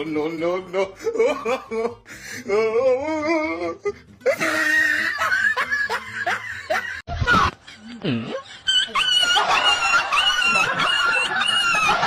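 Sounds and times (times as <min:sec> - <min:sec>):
person laughing: 0:00.7 - 0:12.0.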